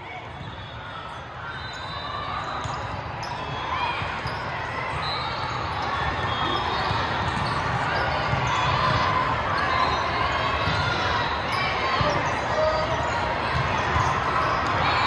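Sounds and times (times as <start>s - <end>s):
crowd chatter: 0.0s - 15.0s
volleyballs hit and bouncing: 2.3s - 15.0s.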